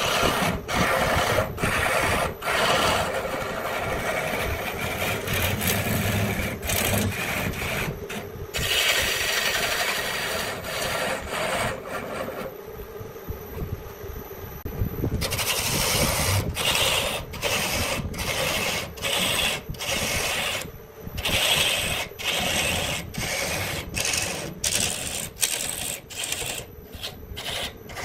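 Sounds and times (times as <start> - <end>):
rasp scraping wood: 0.0 - 12.5, 15.2 - 28.0.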